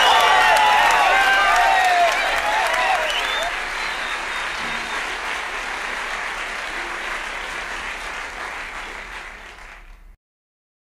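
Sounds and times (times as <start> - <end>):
crowd applause: 0.0 - 10.2.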